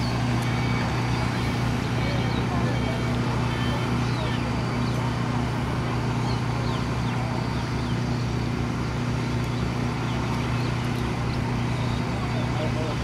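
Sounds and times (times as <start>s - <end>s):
low machinery drone: 0.0s - 13.0s.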